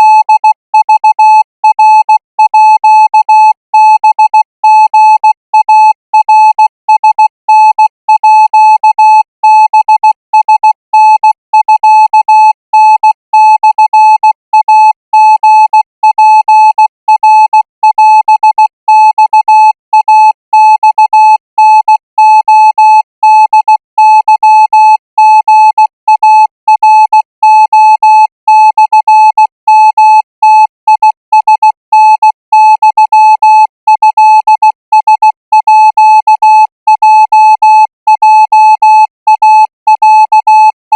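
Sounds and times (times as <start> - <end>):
morse code beeps: 0.0 - 40.8.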